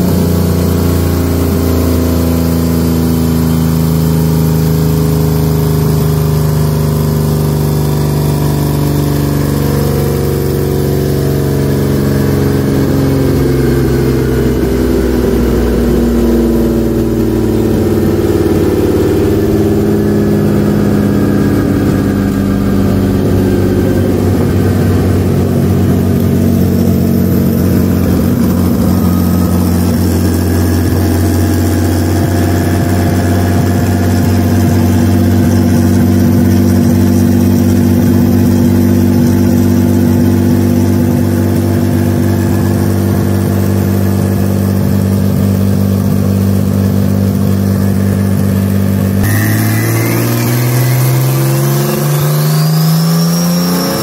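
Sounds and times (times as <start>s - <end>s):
car engine running on dynamometer: 0.0s - 54.0s.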